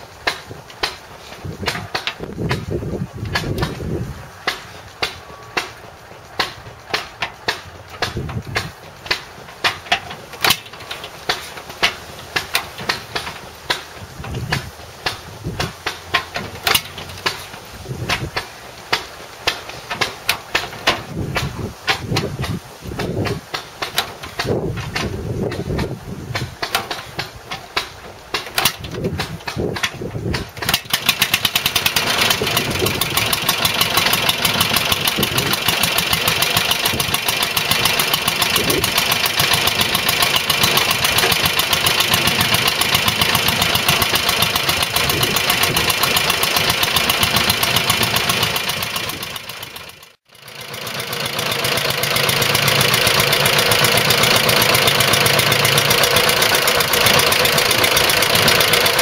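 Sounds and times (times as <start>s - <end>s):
engine cranking: 0.0s - 59.0s
mower engine running: 0.0s - 59.0s.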